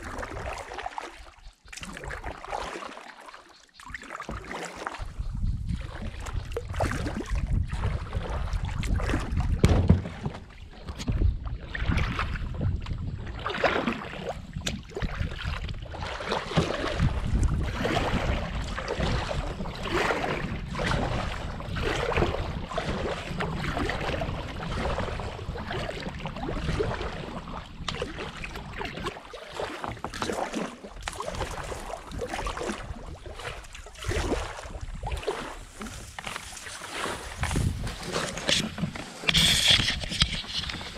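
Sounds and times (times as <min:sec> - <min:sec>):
paddle strokes splashing water: 0:00.0 - 0:40.9
wind rumble on microphone: 0:05.0 - 0:29.2, 0:31.0 - 0:40.9.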